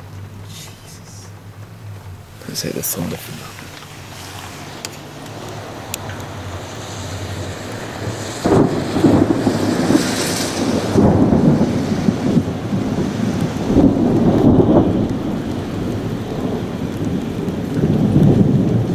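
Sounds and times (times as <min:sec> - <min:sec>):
thunder rumbling: 0:00.0 - 0:18.9.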